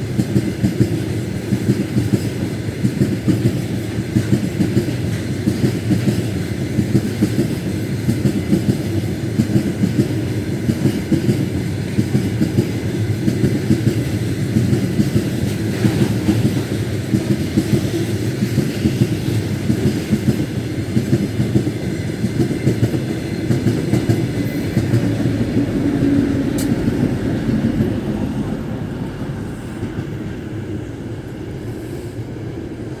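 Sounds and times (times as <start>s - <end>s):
train wheels clattering over rails: 0.0s - 32.6s
train low rumble: 0.0s - 33.0s.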